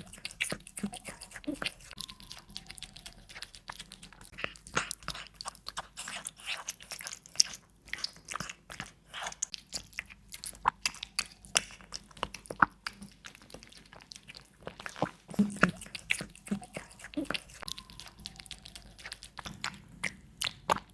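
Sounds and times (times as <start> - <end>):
cat crunching food: 0.0 - 20.9.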